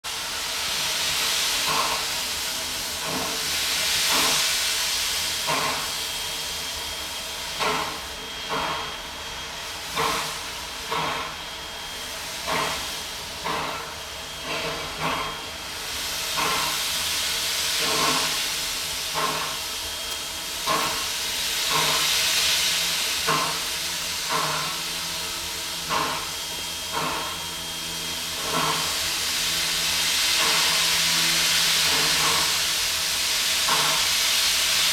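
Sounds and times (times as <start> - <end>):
steam hiss: 0.1 - 34.9
steam locomotive exhaust chuffs: 0.1 - 34.9.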